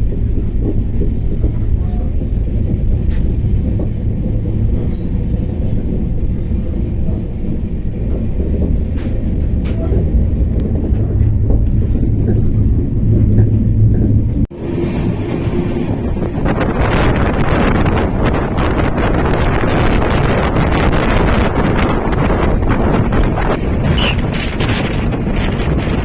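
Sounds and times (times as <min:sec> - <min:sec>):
train rumbling on rails: 0:00.0 - 0:26.0
sharp rail clicks: 0:00.2 - 0:26.0.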